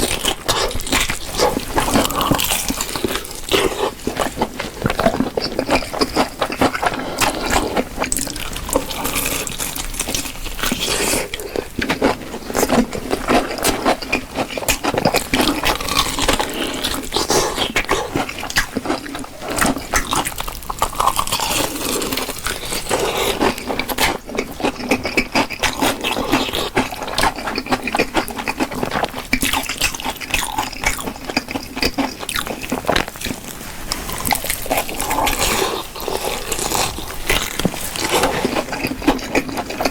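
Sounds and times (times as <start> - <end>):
chewing and wet mouth sounds: 0.0 - 39.9
crunching fried chicken: 0.0 - 39.9.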